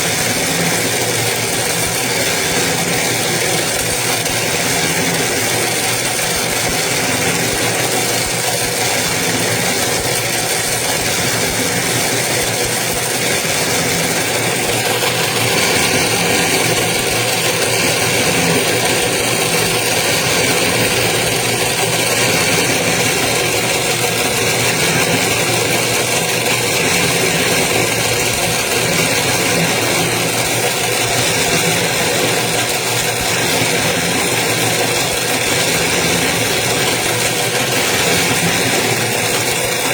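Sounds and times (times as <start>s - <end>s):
winding machine motor hum: 0.0s - 39.9s.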